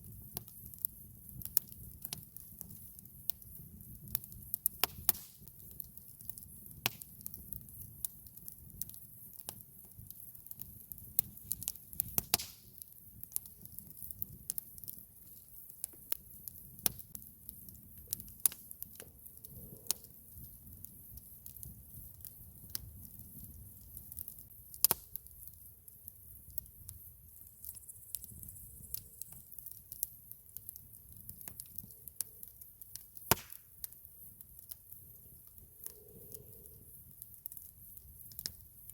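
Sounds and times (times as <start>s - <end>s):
campfire crackling: 0.0s - 38.9s
low rumble of flames: 0.0s - 38.9s.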